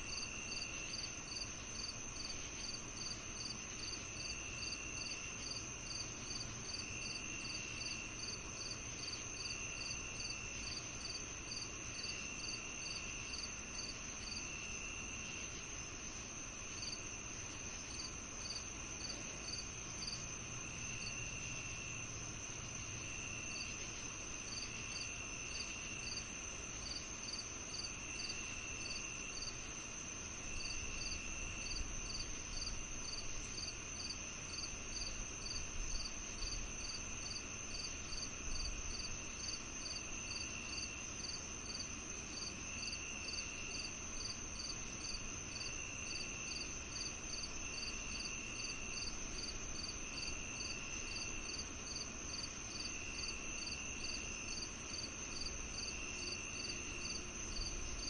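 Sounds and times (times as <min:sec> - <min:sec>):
cricket chirps: 0:00.0 - 0:58.0
high insect trill: 0:00.0 - 0:58.0.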